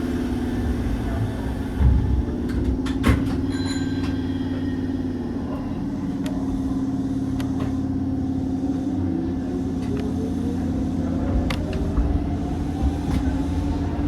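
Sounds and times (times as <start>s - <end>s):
train motor hum: 0.0s - 14.0s.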